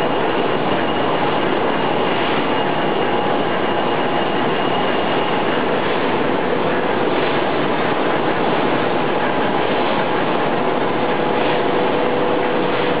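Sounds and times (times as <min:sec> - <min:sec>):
extrusion machine running: 0:00.0 - 0:13.0.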